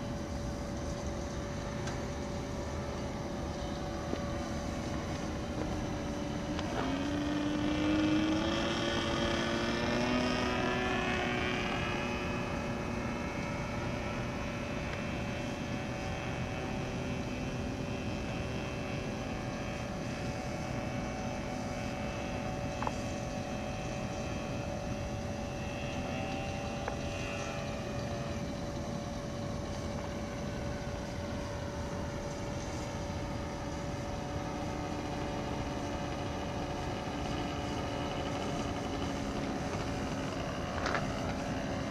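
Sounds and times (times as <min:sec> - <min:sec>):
model plane propeller droning: 0:00.0 - 0:41.9.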